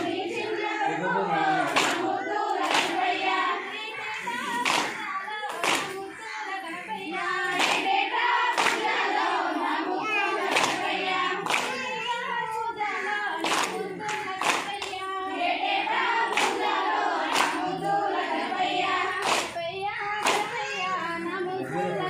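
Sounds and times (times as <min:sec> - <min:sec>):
rhythmic hand clapping: 0:00.0 - 0:21.2
women singing folk song: 0:00.0 - 0:22.0.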